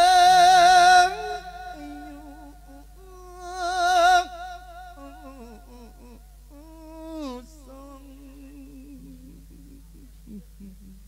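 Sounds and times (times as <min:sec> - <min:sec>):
amplified voice chanting: 0:00.0 - 0:10.6.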